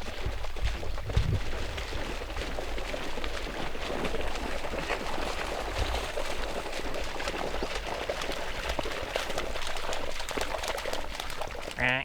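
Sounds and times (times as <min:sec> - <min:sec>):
splashing through shallow water: 0:00.0 - 0:12.0.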